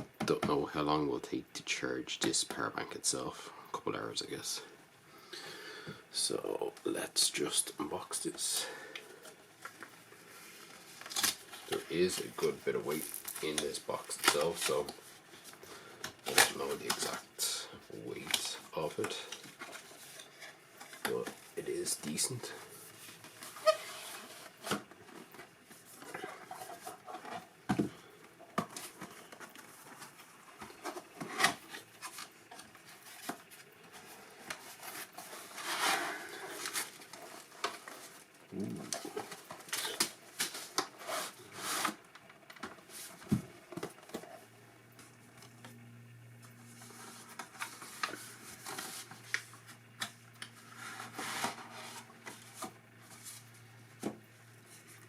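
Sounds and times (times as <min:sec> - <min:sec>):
cardboard and plastic rustling: 0:06.2 - 0:45.8, 0:46.4 - 0:55.0.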